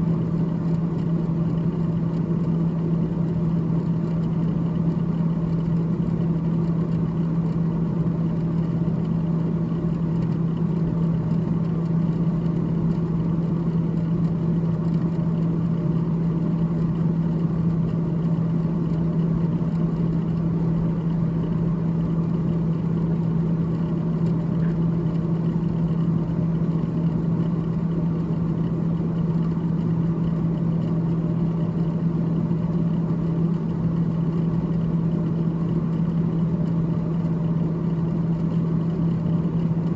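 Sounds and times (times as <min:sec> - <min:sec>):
freezer fan humming: 0:00.0 - 0:39.9.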